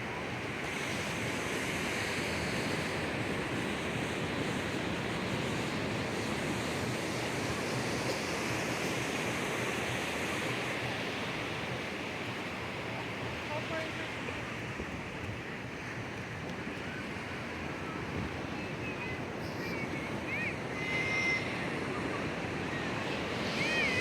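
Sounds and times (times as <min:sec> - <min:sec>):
ocean surf washing onto beach: 0:00.0 - 0:24.0.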